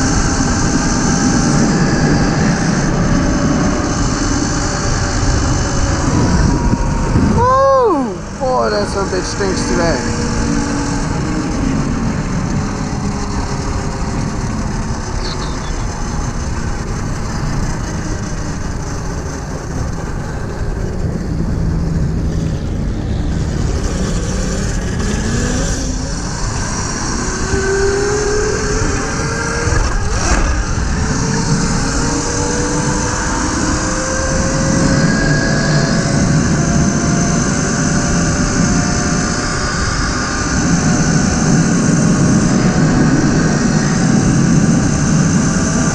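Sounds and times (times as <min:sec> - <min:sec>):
electric motor whine: 0:00.0 - 0:45.9
wind rushing over microphone: 0:00.0 - 0:45.9.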